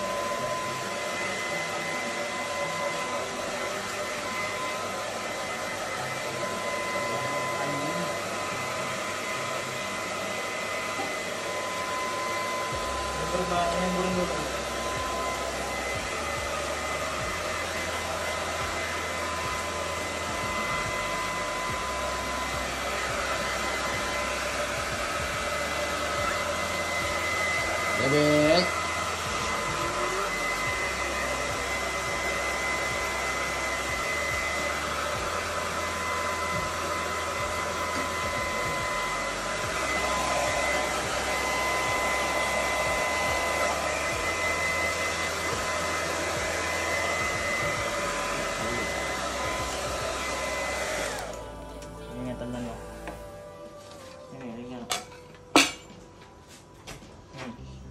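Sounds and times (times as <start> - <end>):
hair dryer blowing with whine: 0.0 - 56.3.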